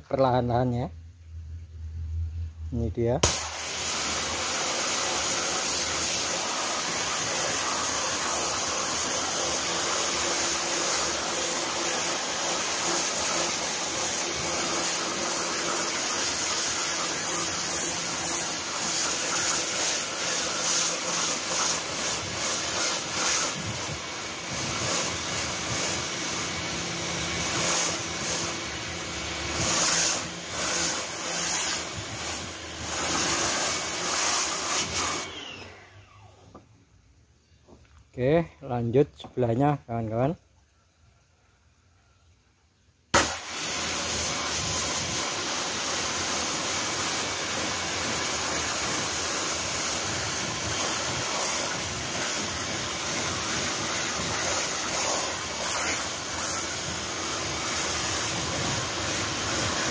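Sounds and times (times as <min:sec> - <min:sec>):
pressure washer water hissing: 0:03.2 - 0:35.7, 0:43.2 - 0:59.9.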